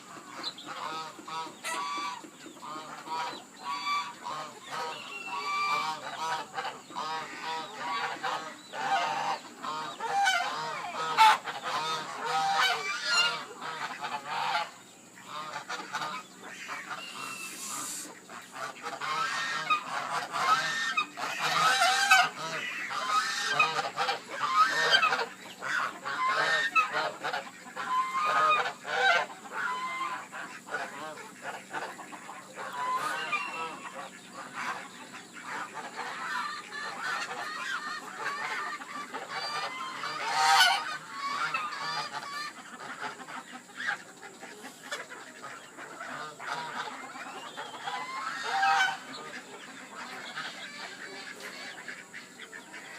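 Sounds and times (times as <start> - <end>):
geese honking: 0.0 - 52.9
poultry calling: 0.0 - 52.9.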